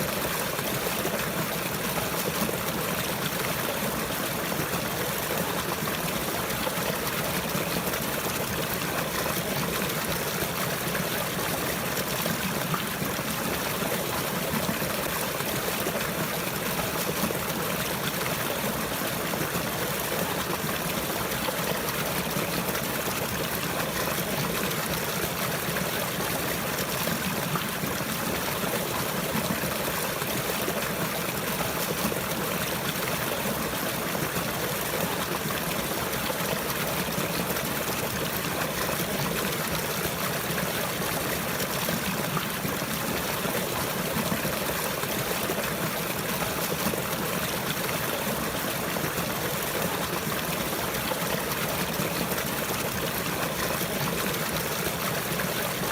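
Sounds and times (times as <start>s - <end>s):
water flowing: 0.0s - 55.9s.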